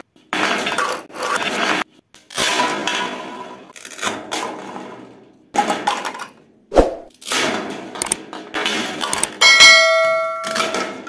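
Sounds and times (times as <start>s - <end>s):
plastic toy pieces rolling and clattering: 0.4s - 6.4s, 7.1s - 9.4s, 10.4s - 11.0s.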